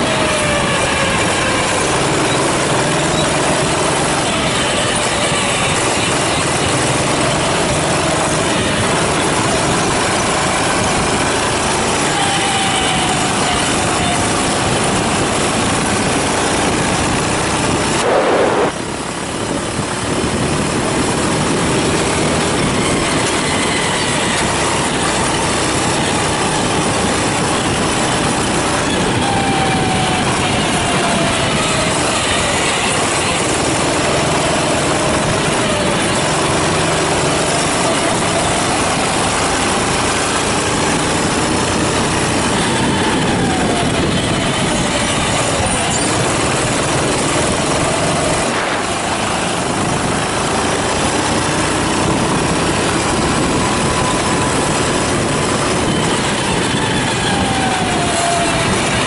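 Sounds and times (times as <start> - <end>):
go-kart engines: 0.0 - 59.0.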